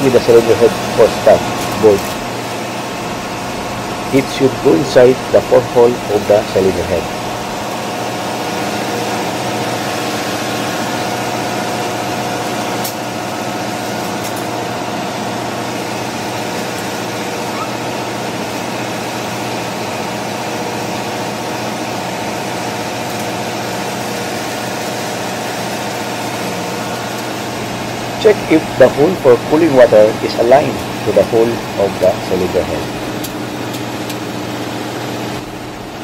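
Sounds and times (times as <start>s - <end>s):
engine room machinery drone: 0.0s - 36.0s.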